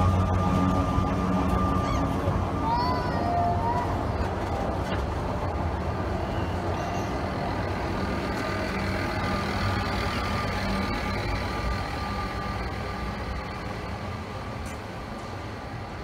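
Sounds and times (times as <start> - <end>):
electric tram humming: 0.0 - 16.0
wheel-on-rail rumble: 0.0 - 16.0.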